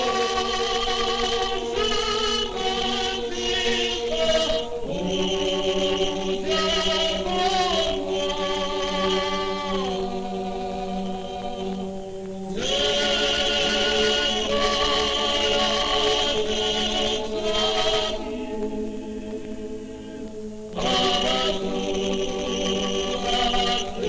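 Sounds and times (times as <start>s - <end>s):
low vocal drone: 0.0s - 24.0s
voices singing unaccompanied: 0.0s - 24.0s.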